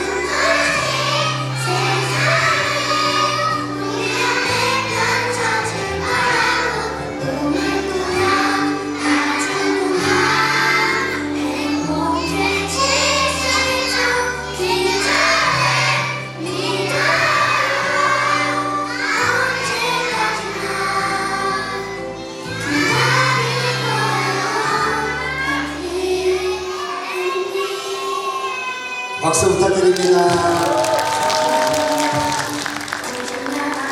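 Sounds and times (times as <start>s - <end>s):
children singing: 0.0s - 29.2s.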